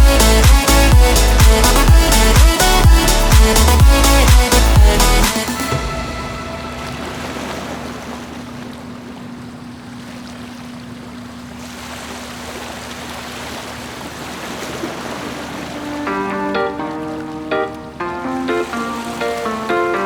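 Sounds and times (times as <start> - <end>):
waves washing against hulls: 0.0 - 20.0.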